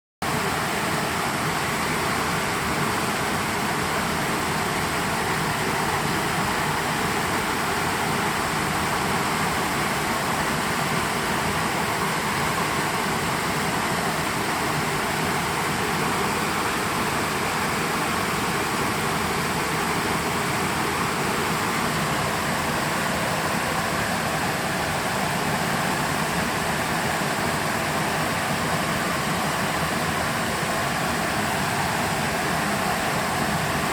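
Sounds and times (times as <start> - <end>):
creek water rushing over rocks: 0.2 - 33.9.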